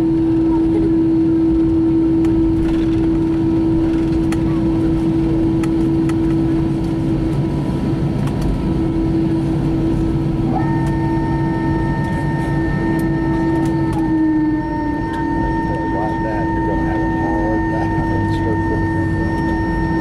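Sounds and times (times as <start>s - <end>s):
engine hum with low rumble: 0.0s - 20.0s
high steady whine: 0.0s - 20.0s.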